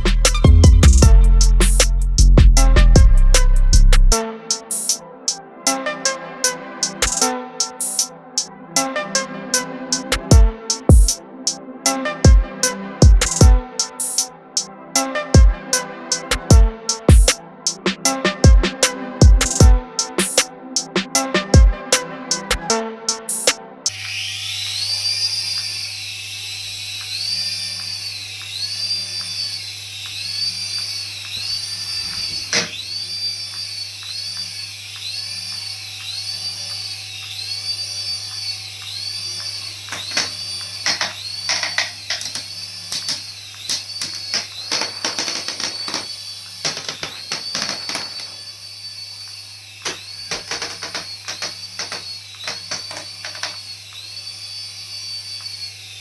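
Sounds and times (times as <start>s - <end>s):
toy electronic whine: 0.0s - 5.0s, 6.4s - 56.0s.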